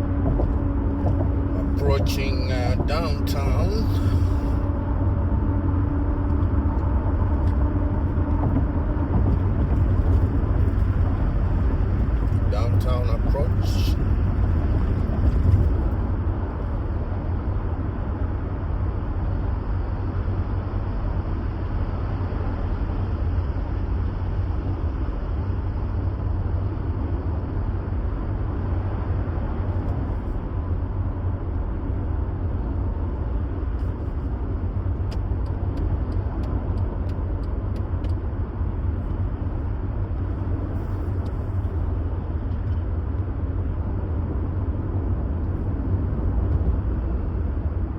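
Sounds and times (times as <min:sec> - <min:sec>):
car driving road noise: 0:00.0 - 0:47.9.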